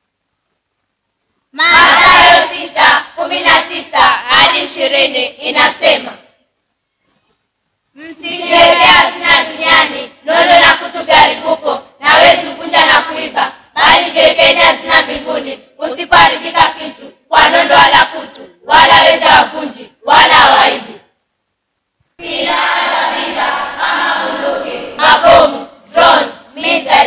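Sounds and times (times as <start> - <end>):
children singing in unison: 1.6 - 6.2, 8.0 - 21.0, 22.2 - 27.0.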